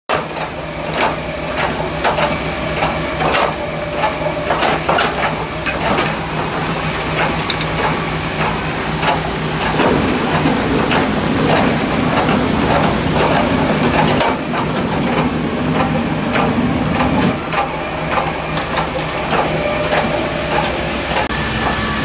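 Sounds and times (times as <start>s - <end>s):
debarking machine humming: 0.1s - 22.0s.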